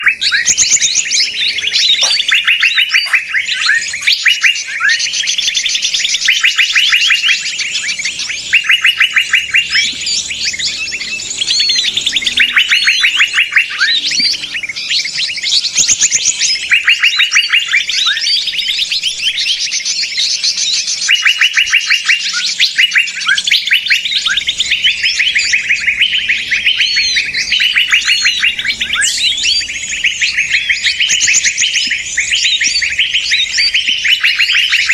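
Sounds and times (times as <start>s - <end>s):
bird chirps: 0.0s - 34.9s
fast bird trills: 0.0s - 34.9s
songbirds chattering: 0.0s - 34.9s.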